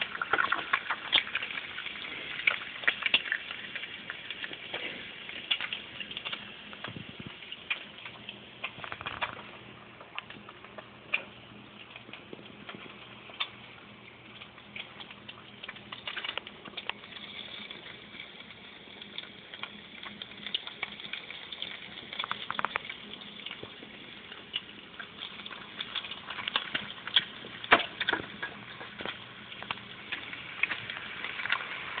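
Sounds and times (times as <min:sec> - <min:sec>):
bacon sizzling in a frying pan: 0:00.0 - 0:32.0.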